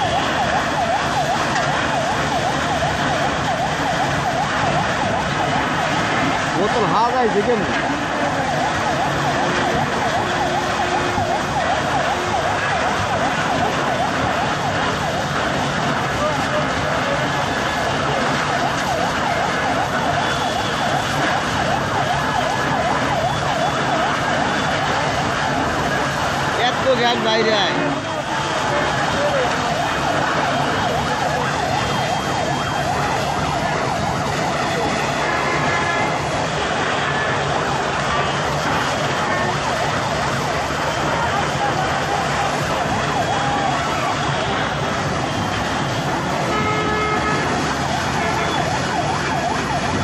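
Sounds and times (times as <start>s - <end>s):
dense background noise: 0.0s - 50.0s
emergency siren yelping: 0.0s - 50.0s.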